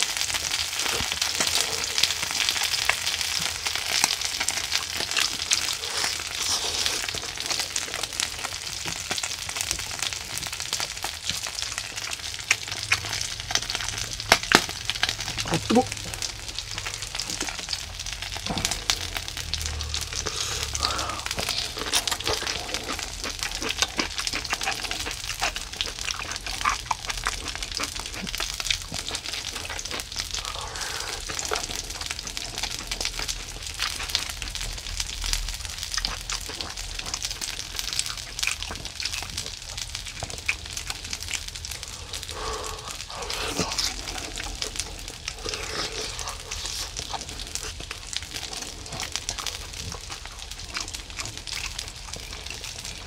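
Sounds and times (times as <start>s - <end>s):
fish sizzling in oil: 0.0s - 53.0s
small crackles and pops: 0.0s - 53.0s.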